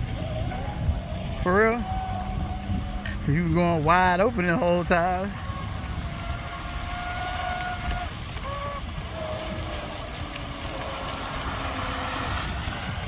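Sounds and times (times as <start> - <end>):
electric boat motors whining: 0.0 - 13.0
wind rumble on microphone: 0.0 - 13.0.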